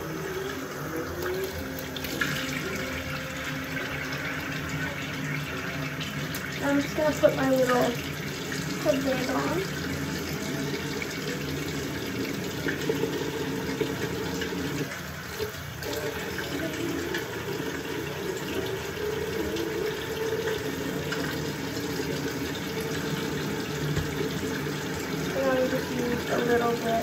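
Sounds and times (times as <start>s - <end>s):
faucet running into sink: 0.0s - 27.0s.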